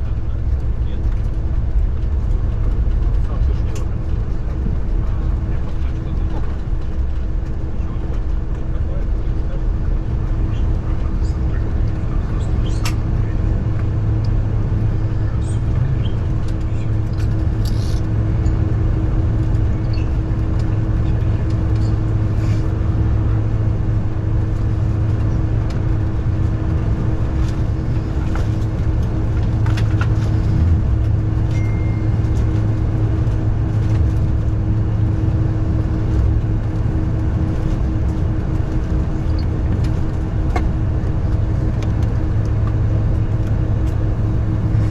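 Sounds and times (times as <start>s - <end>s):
airplane cabin rumble and hum: 0.0s - 44.9s.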